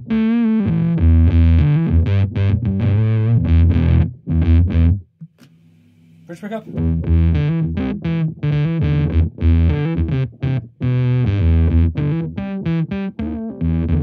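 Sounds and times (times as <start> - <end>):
fuzz electric guitar riff: 0.0 - 5.0, 6.6 - 14.0.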